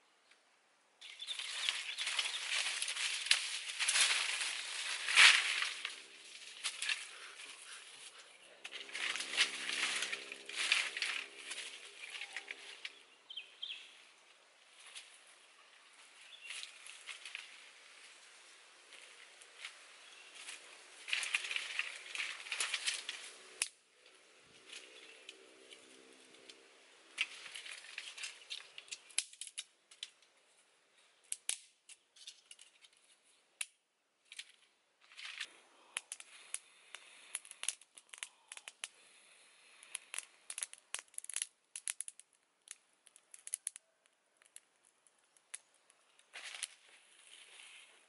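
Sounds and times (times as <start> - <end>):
twigs crackling and snapping: 1.0 - 48.0.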